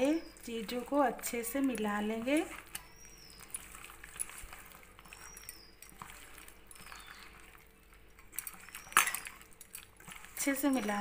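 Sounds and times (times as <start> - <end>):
hands squishing fish paste: 0.0 - 11.0.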